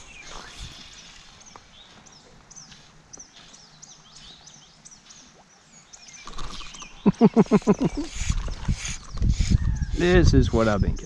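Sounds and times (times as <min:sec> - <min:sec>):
faint outdoor background: 0:00.0 - 0:11.0
small birds chirping: 0:00.0 - 0:11.0.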